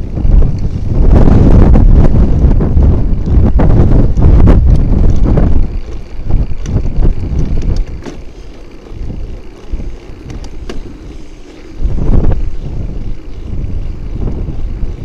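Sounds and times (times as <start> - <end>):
bicycle road rumble: 0.0 - 15.0
wind buffeting: 0.0 - 15.0
sharp rattling clicks: 2.4 - 14.7.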